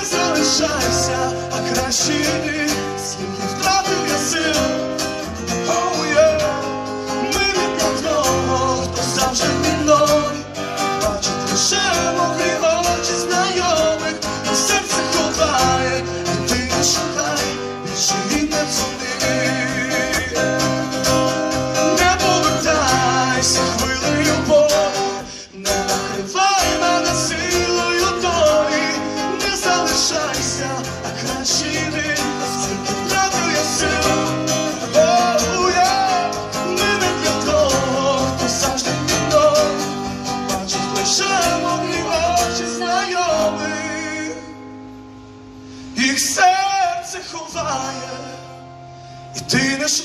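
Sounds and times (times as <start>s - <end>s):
man singing: 0.0s - 44.7s, 45.9s - 48.6s, 49.3s - 50.0s
acoustic guitar strumming: 0.0s - 50.0s.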